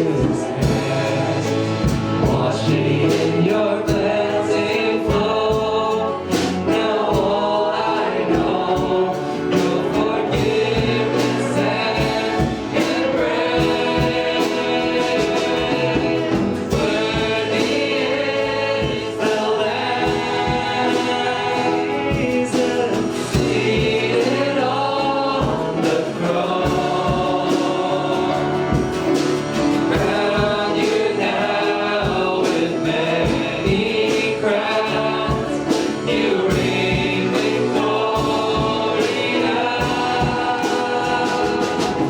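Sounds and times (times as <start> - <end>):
band accompaniment: 0.0 - 42.0
group singing a hymn: 0.0 - 42.0.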